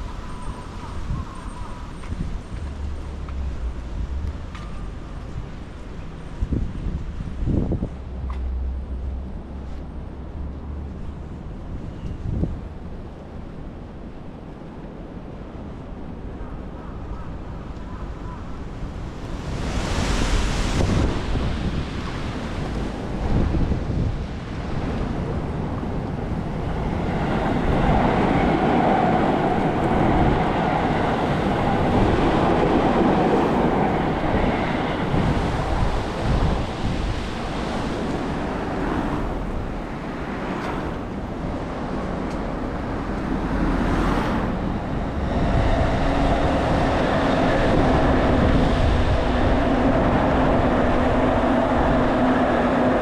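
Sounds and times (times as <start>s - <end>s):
traffic noise: 0.0s - 53.0s
wind gusting on microphone: 0.0s - 53.0s
engine hum: 1.5s - 13.4s, 20.1s - 53.0s.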